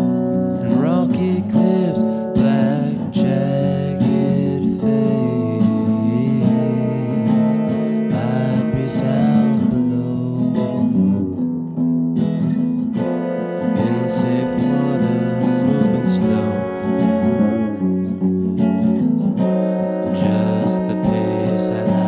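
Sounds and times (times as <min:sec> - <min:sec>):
guitar background music: 0:00.0 - 0:22.0.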